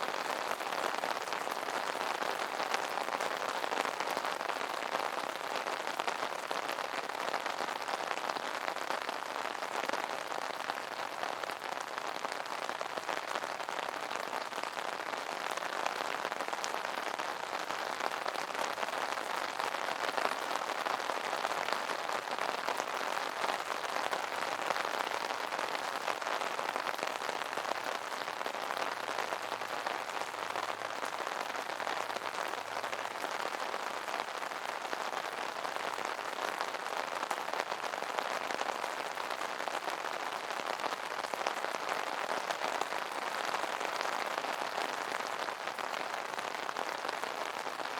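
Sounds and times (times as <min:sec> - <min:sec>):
rain on an umbrella: 0:00.0 - 0:47.9.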